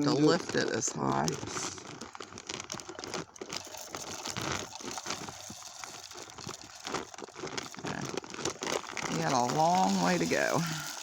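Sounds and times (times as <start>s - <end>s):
bag crinkling: 0.0s - 11.0s
bird seed pouring into feeder: 0.8s - 11.0s.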